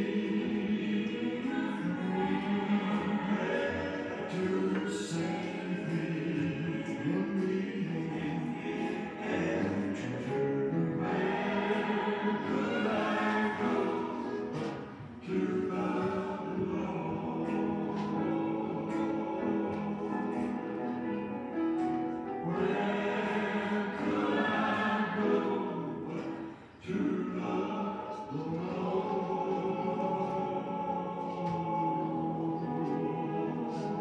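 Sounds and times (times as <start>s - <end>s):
choir singing a hymn: 0.0s - 34.0s.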